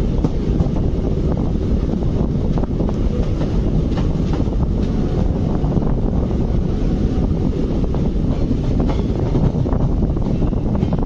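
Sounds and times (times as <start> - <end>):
train wheels rumbling on rails: 0.0 - 11.0
wind buffeting the microphone: 0.0 - 11.0.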